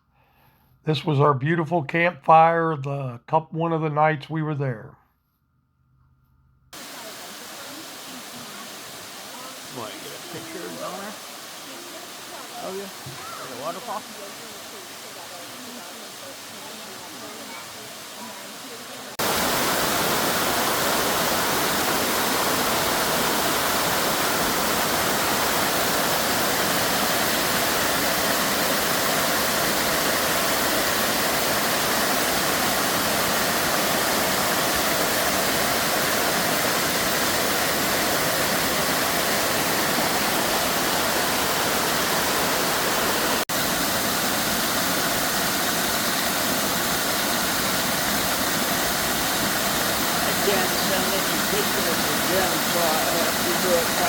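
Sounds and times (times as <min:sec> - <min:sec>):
waterfall rushing: 0:06.8 - 0:54.0.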